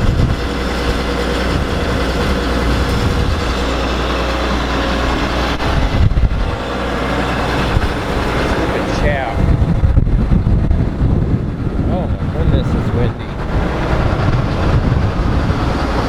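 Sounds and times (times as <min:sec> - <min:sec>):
combine harvester running: 0:00.0 - 0:16.0
wind buffeting microphone: 0:00.0 - 0:16.0.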